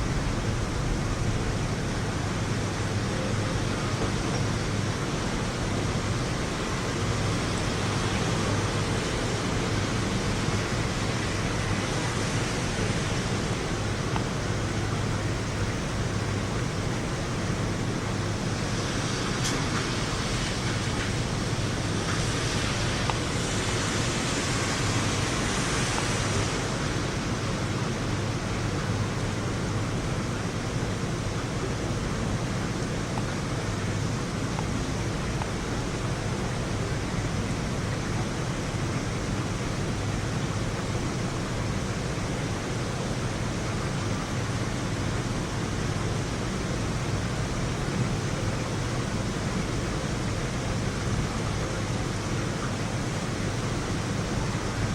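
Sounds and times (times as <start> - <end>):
heavy rain hissing: 0.0 - 54.9.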